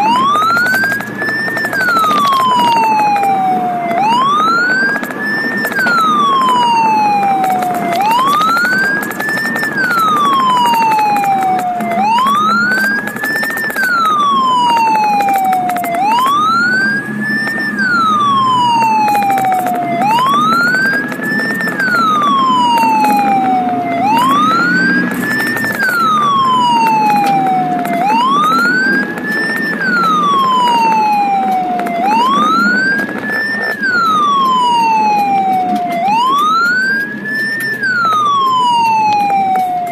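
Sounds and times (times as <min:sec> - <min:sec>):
ambulance siren wailing: 0:00.0 - 0:39.9
engine and road noise: 0:00.0 - 0:39.9.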